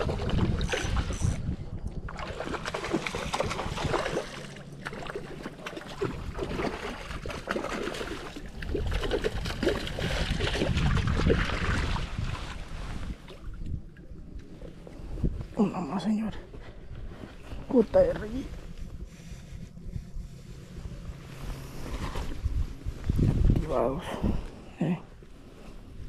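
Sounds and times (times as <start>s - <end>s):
wind blowing across microphone: 0.0s - 4.4s, 8.5s - 26.0s.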